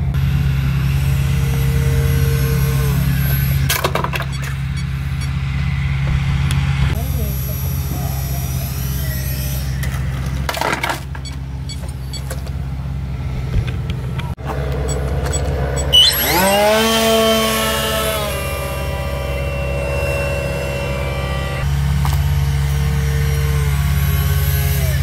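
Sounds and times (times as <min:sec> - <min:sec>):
electric motor propeller whine: 0:00.0 - 0:10.5, 0:14.4 - 0:25.0.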